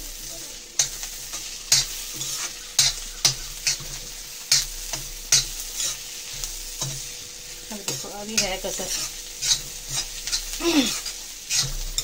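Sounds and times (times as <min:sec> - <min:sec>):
frying sizzle: 0:00.0 - 0:12.0
metal spatula scraping a pan: 0:00.3 - 0:12.0.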